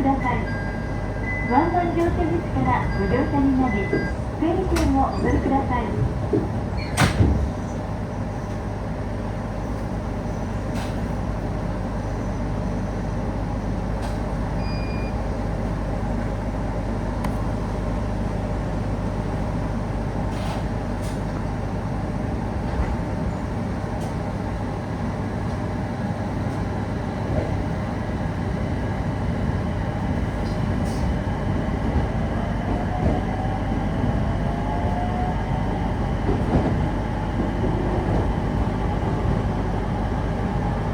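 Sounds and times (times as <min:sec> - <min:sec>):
wheels rumbling on rail: 0:00.0 - 0:40.9.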